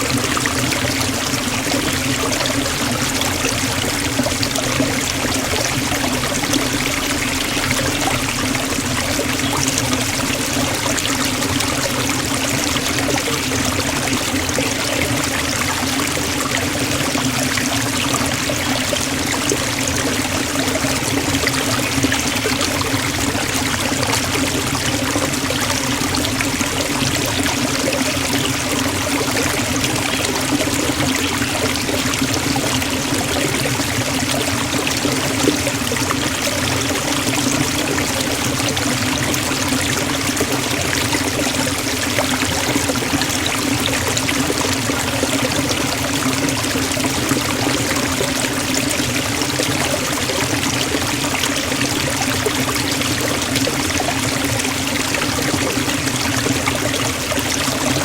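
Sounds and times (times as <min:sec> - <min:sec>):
waterfall splashing into pool: 0:00.0 - 0:58.0.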